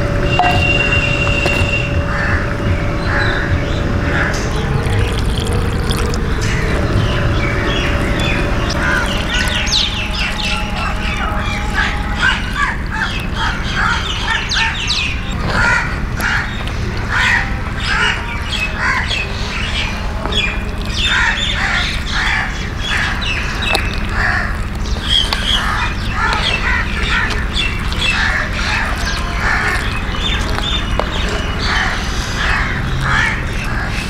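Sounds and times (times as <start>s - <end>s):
birds squawking and chirping: 0.0s - 34.0s
steady low hum: 0.0s - 34.0s.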